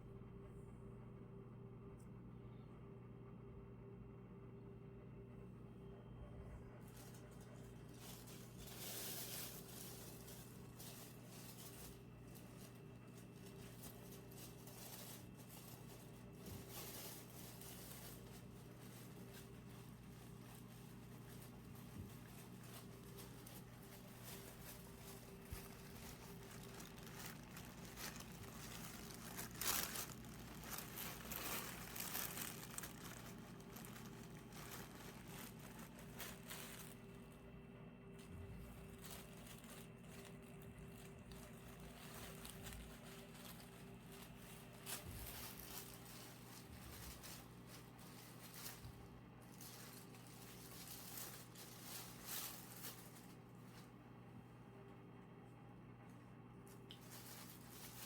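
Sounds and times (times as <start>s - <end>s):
steady low hum: 0.0s - 58.0s
faint rustling and crinkling: 5.8s - 58.0s.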